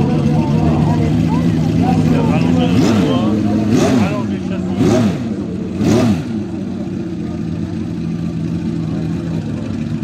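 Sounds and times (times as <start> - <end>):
engine throttle blip and idle: 0.0 - 10.0.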